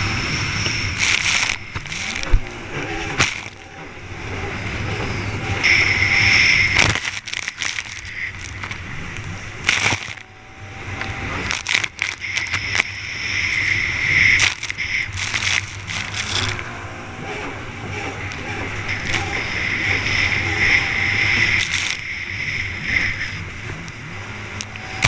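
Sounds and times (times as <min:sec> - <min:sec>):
jet ski engine: 0:00.0 - 0:25.0.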